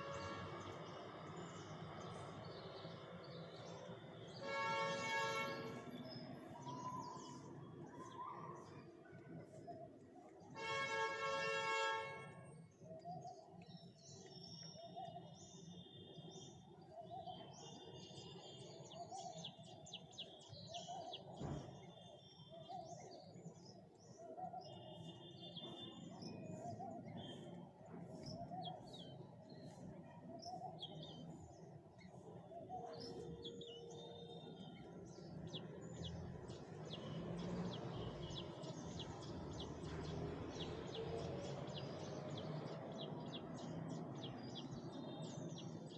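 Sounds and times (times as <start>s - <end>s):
birds chirping and trilling: 0.0s - 45.9s.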